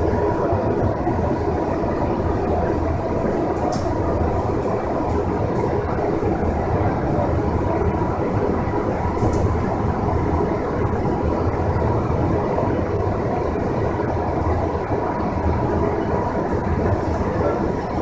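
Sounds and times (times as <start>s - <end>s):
people-mover car rumbling: 0.0s - 18.0s.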